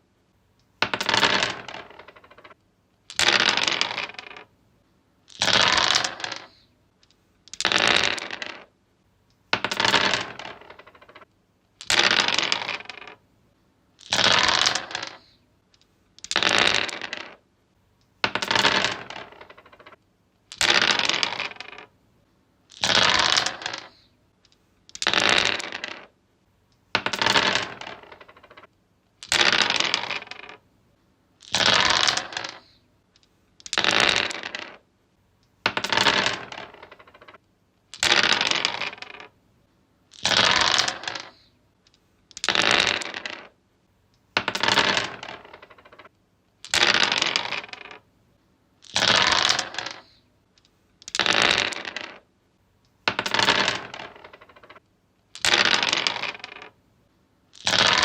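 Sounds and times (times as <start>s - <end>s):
dice clattering on wood: 0.8s - 4.5s, 5.3s - 8.7s, 9.5s - 13.2s, 14.0s - 17.4s, 18.2s - 21.9s, 22.7s - 26.1s, 26.9s - 30.6s, 31.4s - 34.8s, 35.6s - 39.4s, 40.1s - 43.6s, 44.2s - 48.1s, 48.8s - 52.3s, 53.0s - 56.8s, 57.5s - 58.0s.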